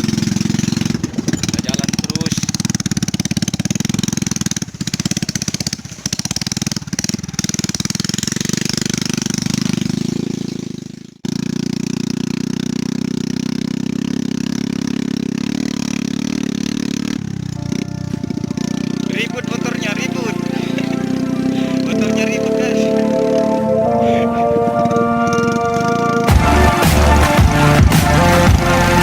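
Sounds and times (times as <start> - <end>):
small motorcycle engine running: 0.0 - 29.0.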